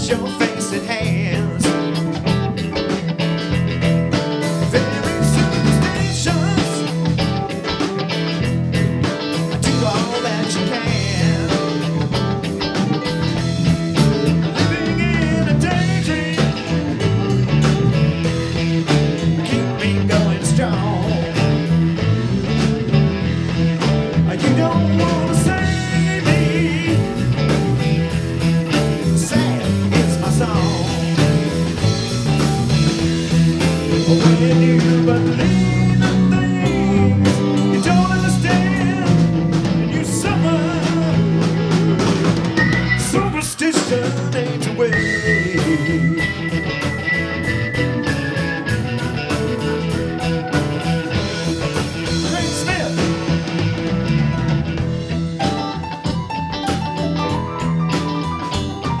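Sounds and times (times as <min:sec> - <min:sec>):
bass guitar: 0:00.0 - 0:59.0
electric guitar: 0:00.0 - 0:59.0
electric keyboard: 0:00.0 - 0:59.0.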